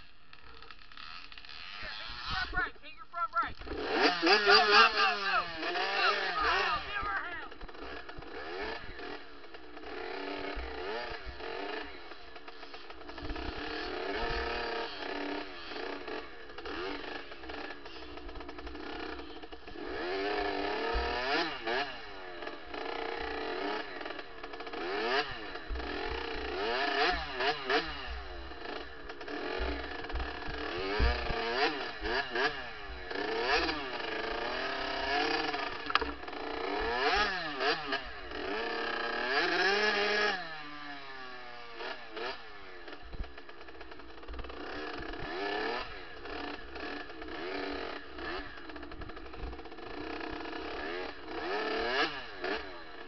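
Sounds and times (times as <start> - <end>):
two-stroke dirt bike engine revving: 0.0 - 53.0.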